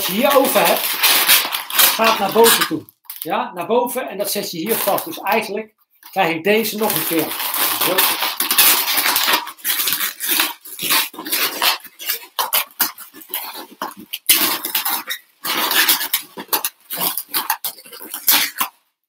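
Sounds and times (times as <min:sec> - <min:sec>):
balloons squeaking and rubbing: 0:00.0 - 0:19.0.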